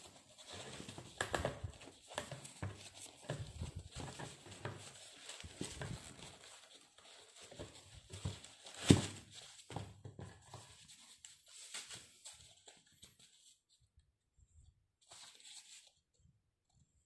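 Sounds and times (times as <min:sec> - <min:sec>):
tissue paper rustling: 0:00.0 - 0:13.7, 0:15.0 - 0:16.0.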